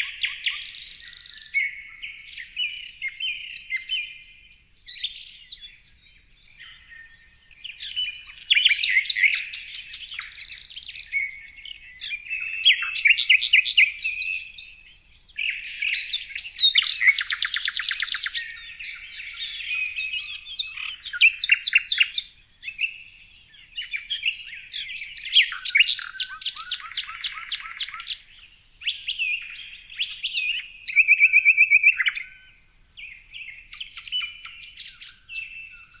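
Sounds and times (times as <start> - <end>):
songbird trilling: 0.0 - 36.0.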